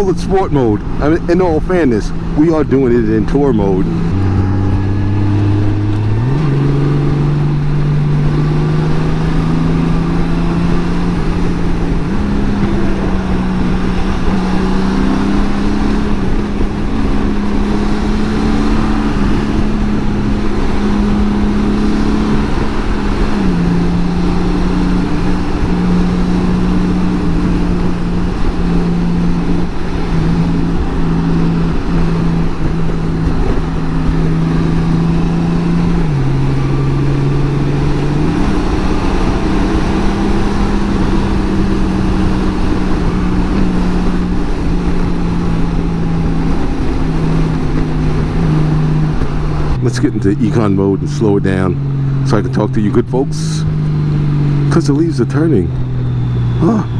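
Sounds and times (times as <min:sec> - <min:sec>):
motorcycle engine at speed: 0:00.0 - 0:56.9
wind and road noise: 0:00.0 - 0:56.9.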